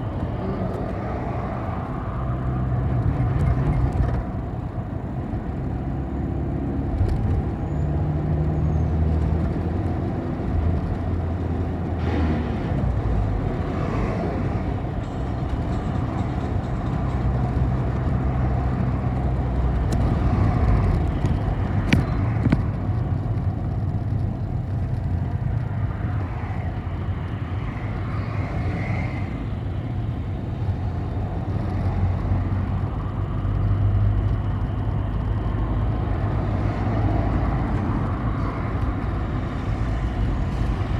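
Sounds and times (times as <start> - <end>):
bus engine running: 0.0 - 40.9
road noise: 0.0 - 40.9.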